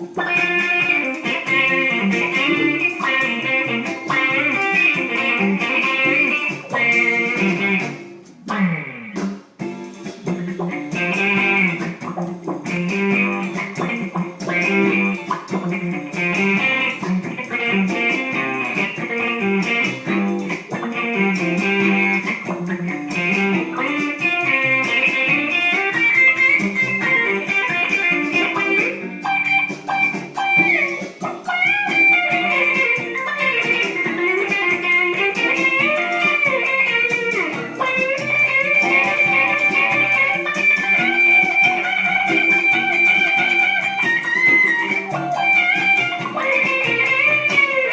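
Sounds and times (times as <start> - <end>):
blues electric guitar: 0.0 - 47.9.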